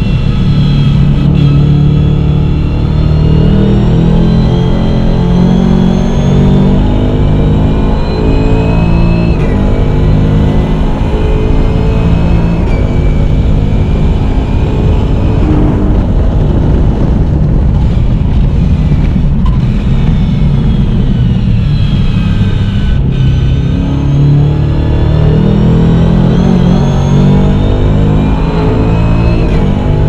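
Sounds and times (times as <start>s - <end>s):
engine accelerating hard: 0.0s - 30.0s.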